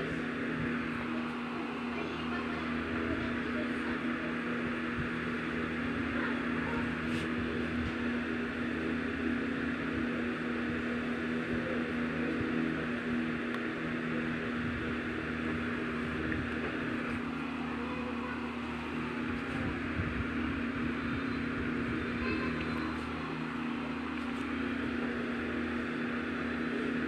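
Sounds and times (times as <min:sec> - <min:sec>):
small electric motor humming: 0:00.0 - 0:27.0.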